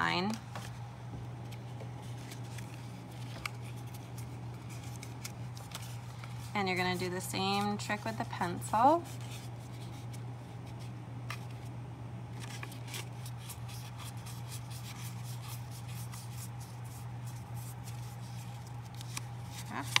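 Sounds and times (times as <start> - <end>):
steady low hum: 0.0 - 20.0
paper rustling and crackling: 1.4 - 11.7, 12.3 - 20.0.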